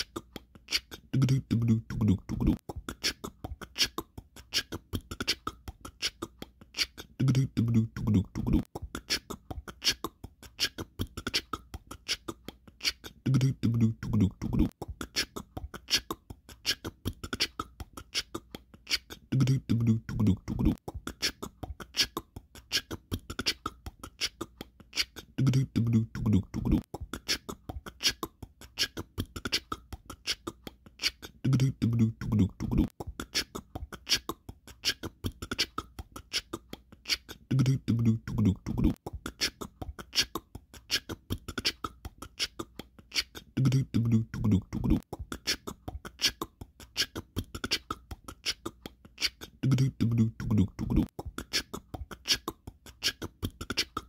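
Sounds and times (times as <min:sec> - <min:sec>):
beatbox mouth clicks: 0:00.0 - 0:54.0
low voiced phrase: 0:00.7 - 0:04.0, 0:04.6 - 0:22.2, 0:22.8 - 0:28.2, 0:29.4 - 0:41.8, 0:43.2 - 0:48.7, 0:49.4 - 0:52.5.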